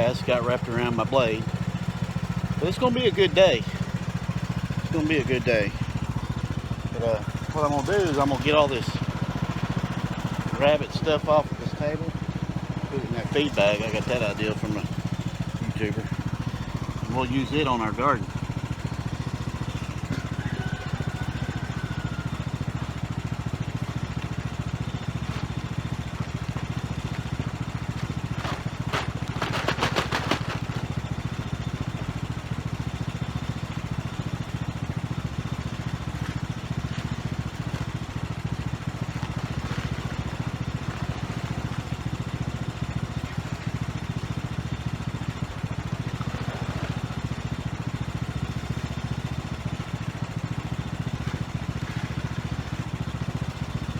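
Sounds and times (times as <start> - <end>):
lawn mower engine idling: 0.0 - 53.9.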